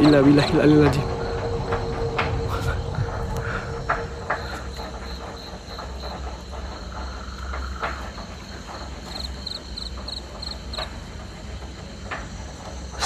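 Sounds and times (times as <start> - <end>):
crickets chirping: 0.0 - 13.0
steady low rumble: 0.0 - 13.0.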